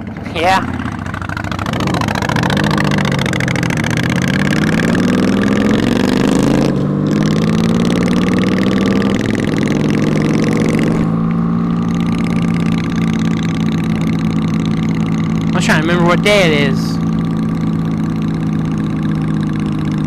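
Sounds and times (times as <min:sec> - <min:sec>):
motorcycle engine pulling away: 0:00.0 - 0:20.0.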